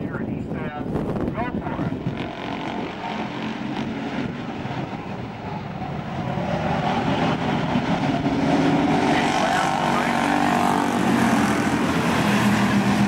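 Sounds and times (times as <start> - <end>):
stock car engines racing: 1.5 - 13.0.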